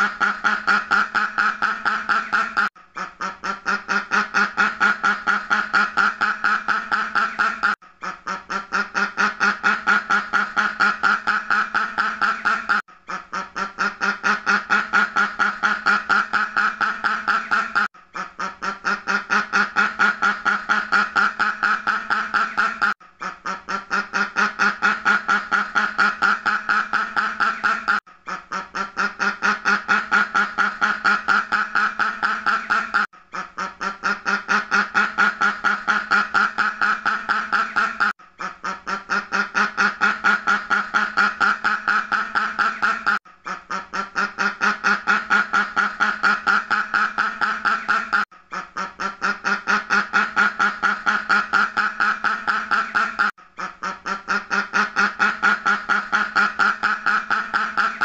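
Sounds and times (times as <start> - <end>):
duck quacking: 0.0 - 58.0.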